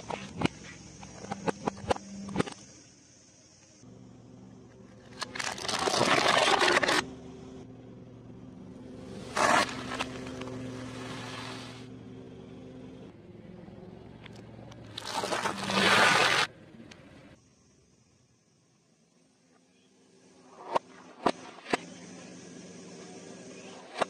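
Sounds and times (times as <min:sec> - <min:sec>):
low steady hum: 0:00.0 - 0:21.1.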